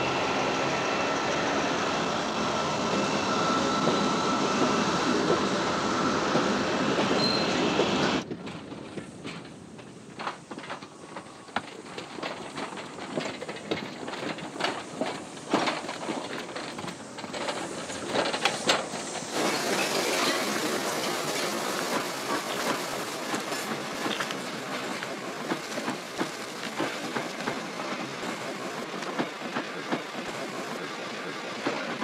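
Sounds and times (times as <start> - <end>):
train rolling: 0.0 - 32.0.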